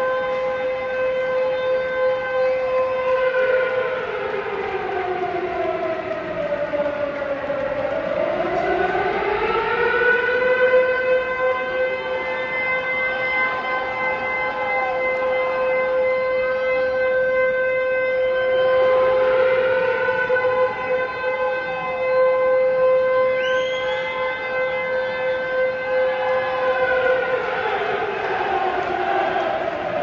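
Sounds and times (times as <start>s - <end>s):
siren-like wail: 0.0s - 30.0s.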